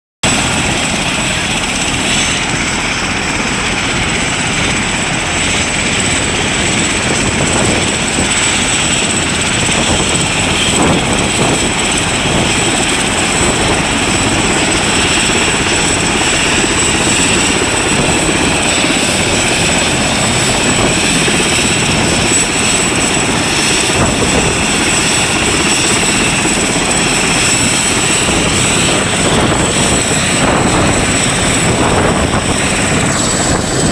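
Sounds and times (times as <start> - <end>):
helicopter rotor and engine: 0.2 - 33.9.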